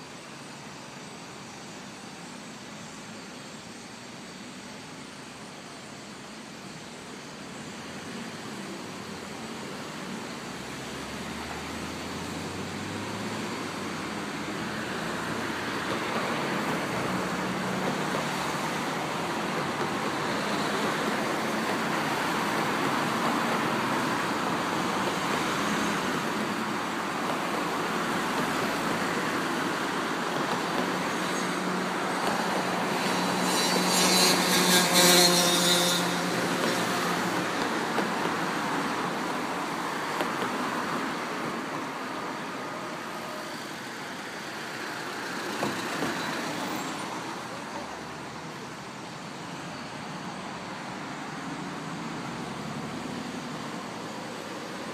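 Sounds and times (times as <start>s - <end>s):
road traffic noise: 0.0s - 54.9s.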